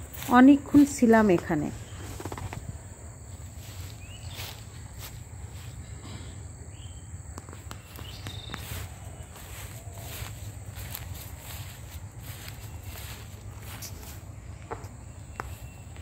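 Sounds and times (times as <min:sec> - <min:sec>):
footsteps walking: 0:00.0 - 0:01.3, 0:02.2 - 0:05.9, 0:07.4 - 0:16.0
high insect drone: 0:00.0 - 0:16.0.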